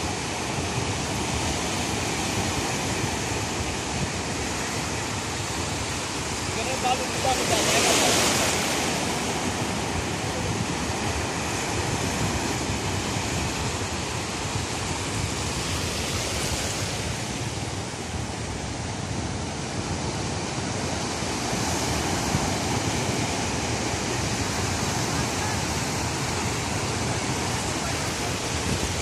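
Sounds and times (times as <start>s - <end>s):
sea surf breaking on beach: 0.0s - 29.0s.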